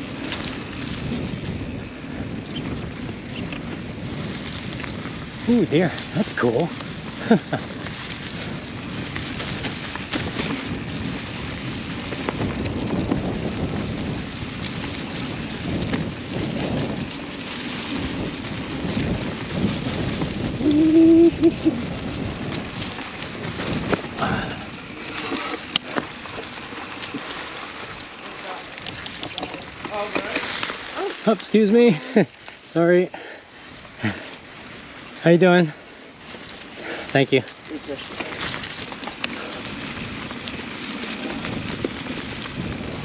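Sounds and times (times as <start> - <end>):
bike rattling over ground: 0.0 - 43.0
tyre and wind noise: 0.0 - 43.0.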